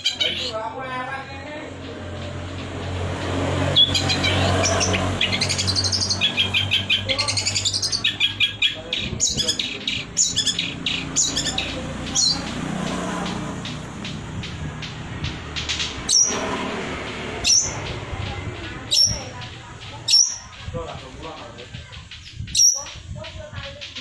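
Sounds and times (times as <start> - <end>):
shrike singing: 0.0 - 24.0.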